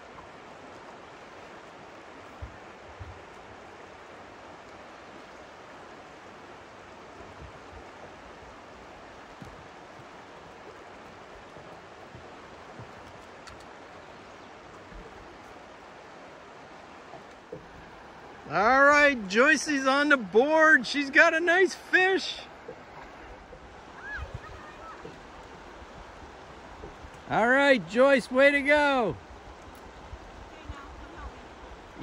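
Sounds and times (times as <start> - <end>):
river rushing over riffles: 0.0 - 32.0.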